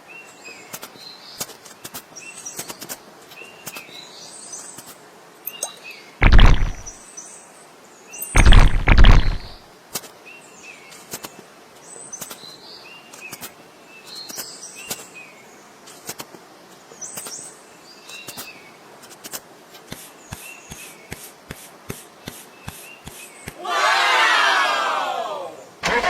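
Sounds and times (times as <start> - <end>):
small birds chirping: 0.0 - 9.6, 10.2 - 19.2, 19.9 - 23.6.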